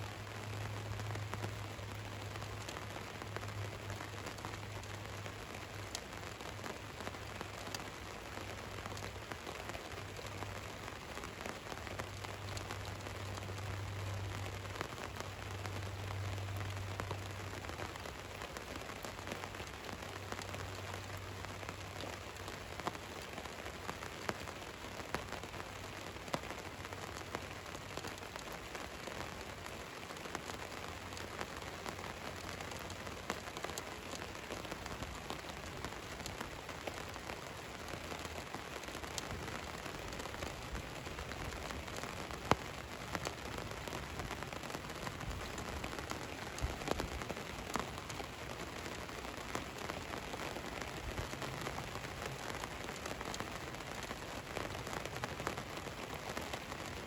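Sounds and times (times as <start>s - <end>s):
rain on a vehicle roof: 0.0s - 57.0s
raindrop ticks: 0.0s - 57.0s.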